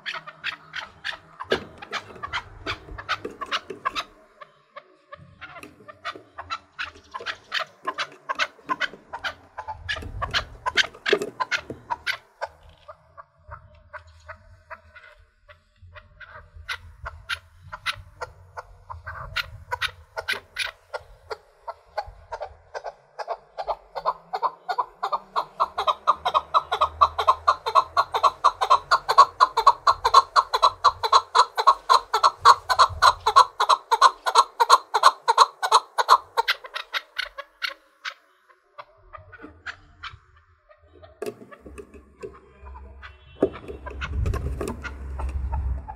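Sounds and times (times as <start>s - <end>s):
partridge rapid chuck calls: 0.0s - 45.6s.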